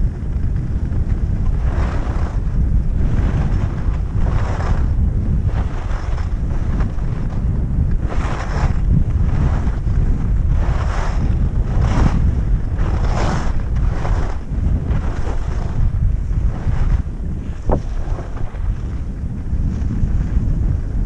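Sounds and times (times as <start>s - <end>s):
skis scraping over snow: 0.0s - 21.0s
wind buffeting microphone: 0.0s - 21.0s.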